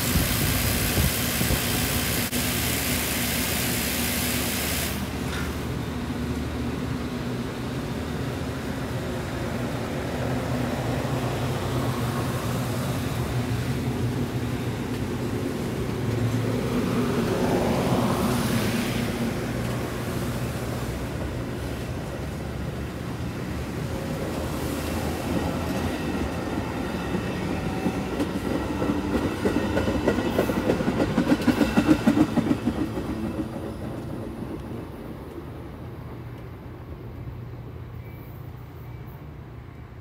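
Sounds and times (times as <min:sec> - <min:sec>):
train coaches rumbling past: 0:00.0 - 0:40.0.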